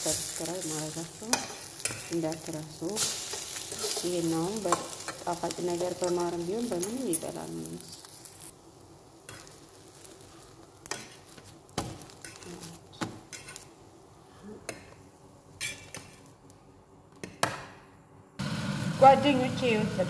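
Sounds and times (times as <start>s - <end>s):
faint sizzle: 0.0s - 17.0s, 18.4s - 20.0s.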